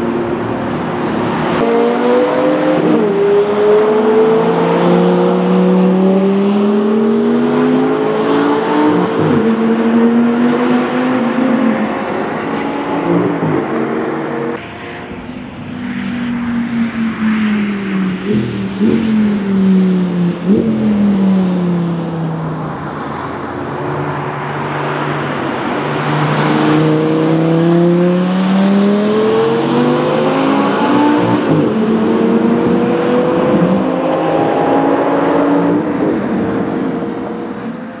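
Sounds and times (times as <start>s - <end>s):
sports car engine accelerating: 0.0s - 38.0s.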